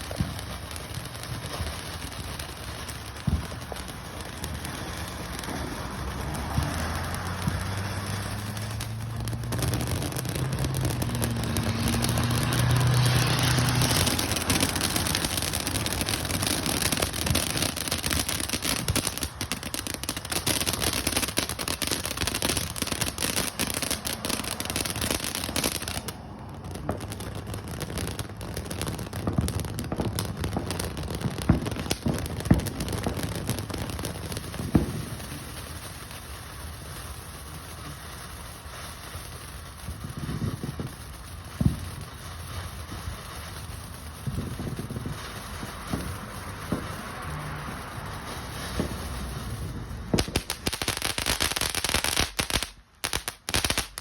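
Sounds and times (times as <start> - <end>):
firework bangs: 0.0 - 54.0
fireworks crackling: 0.0 - 54.0.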